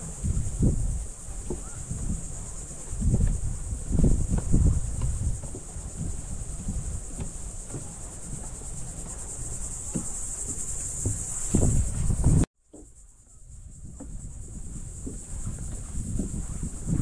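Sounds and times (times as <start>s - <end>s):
insects buzzing chorus: 0.0s - 17.0s
low thumps: 0.0s - 17.0s.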